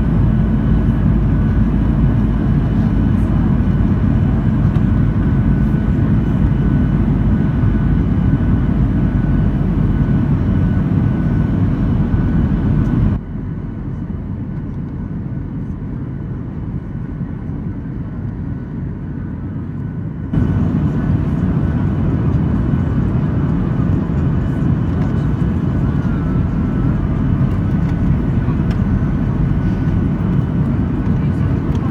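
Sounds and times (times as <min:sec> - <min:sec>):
jet engine drone in cabin: 0:00.0 - 0:31.9.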